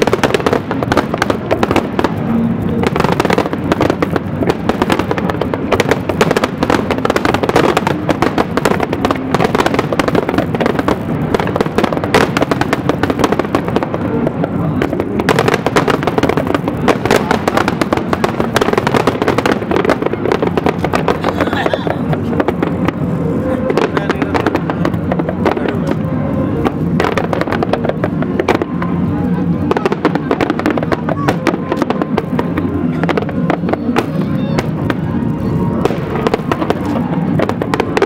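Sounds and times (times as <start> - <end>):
fireworks crackling bangs: 0.0 - 38.0.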